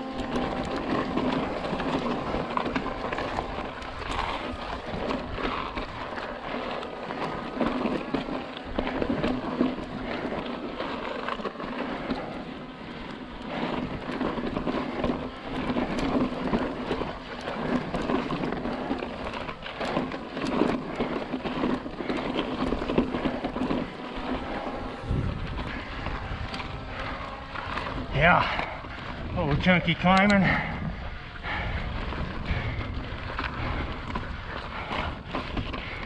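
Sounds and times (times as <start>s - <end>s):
bike clicking and rattling: 0.0s - 36.0s
tyres crackling over rock: 0.0s - 36.0s.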